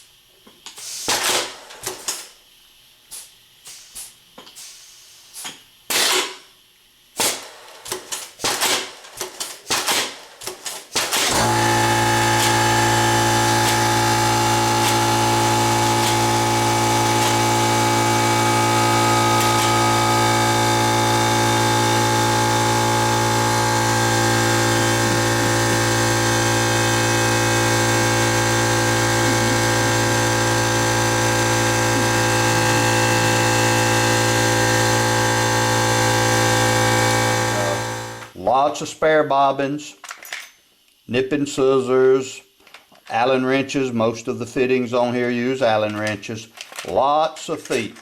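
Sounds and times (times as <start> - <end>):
air compressor humming: 0.0 - 38.5.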